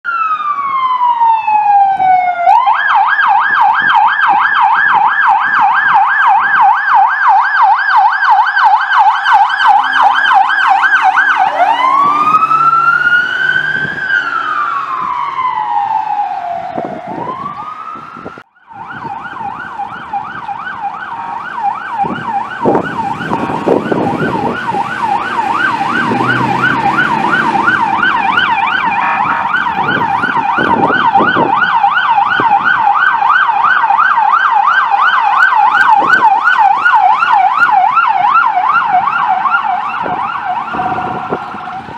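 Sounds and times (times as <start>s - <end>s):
emergency vehicle siren wailing and yelping: 0.0s - 41.9s
road and engine rumble: 0.1s - 41.9s
second siren fast yelp: 0.1s - 41.9s.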